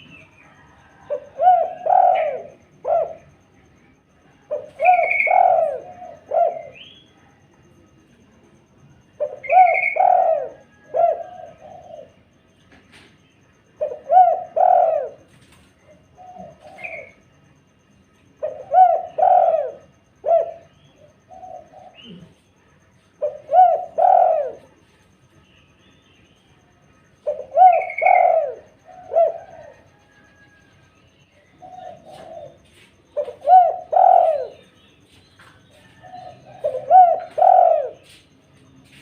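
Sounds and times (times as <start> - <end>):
dove cooing: 0.0 - 7.5, 9.0 - 13.0, 13.7 - 17.4, 18.3 - 24.9, 27.1 - 34.8, 35.4 - 38.2.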